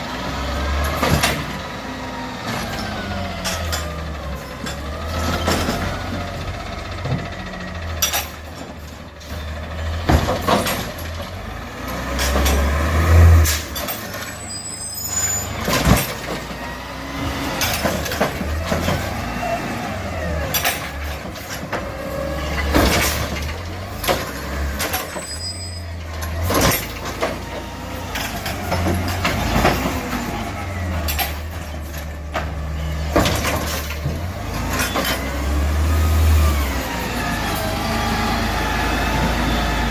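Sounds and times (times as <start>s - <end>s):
diesel engine revving: 0.0s - 39.9s
clunks and knocks: 0.6s - 1.7s, 2.4s - 14.4s, 15.1s - 39.9s.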